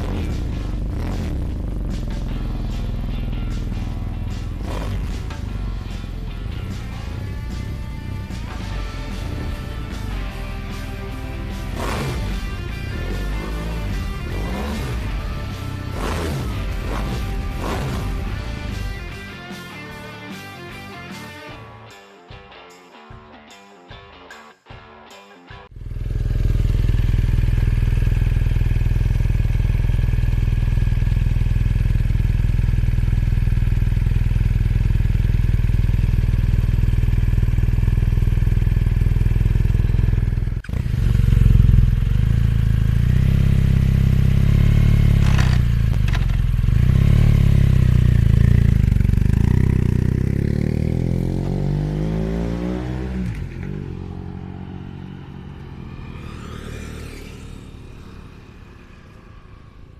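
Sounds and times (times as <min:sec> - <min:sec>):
motorcycle exhaust note: 0:00.0 - 0:19.4, 0:25.8 - 0:59.9.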